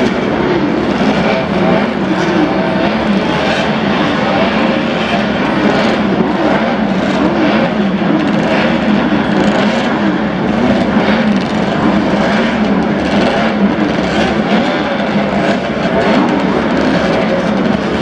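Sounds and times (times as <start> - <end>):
racing motorcycles revving and passing: 0.0 - 18.0.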